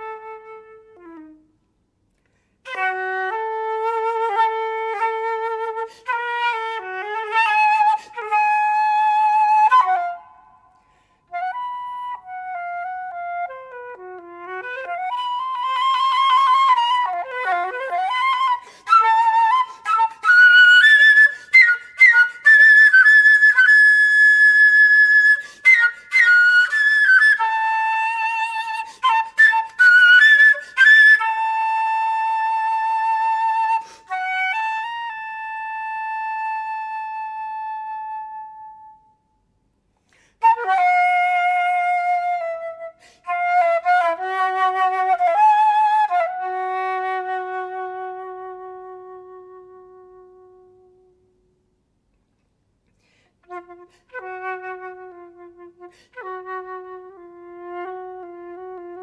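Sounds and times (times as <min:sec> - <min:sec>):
solo flute melody: 0:00.0 - 0:01.7, 0:02.6 - 0:39.4, 0:40.4 - 0:51.6, 0:53.4 - 0:59.0.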